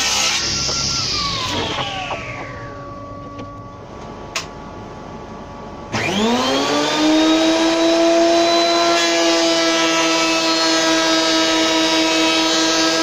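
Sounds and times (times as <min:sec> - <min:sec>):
table saw winding down: 0:00.0 - 0:03.5, 0:05.9 - 0:13.0
planer whining: 0:00.0 - 0:04.5, 0:05.9 - 0:13.0.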